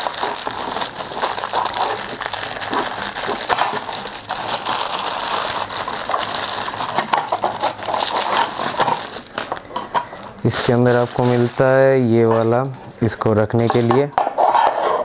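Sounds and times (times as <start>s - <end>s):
plastic bag crinkling: 0.0s - 13.9s.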